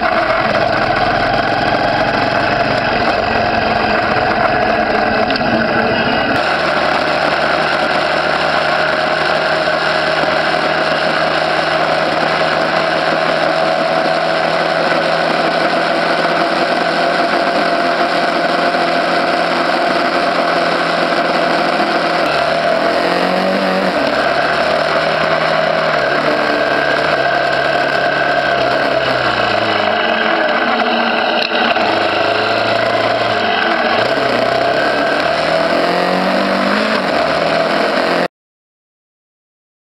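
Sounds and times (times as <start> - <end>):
motorbike engine running: 0.0 - 38.3.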